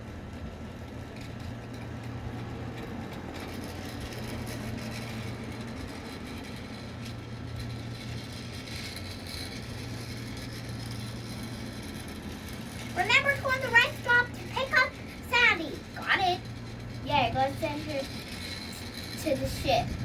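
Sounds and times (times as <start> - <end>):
toy train motor humming: 0.0 - 20.0.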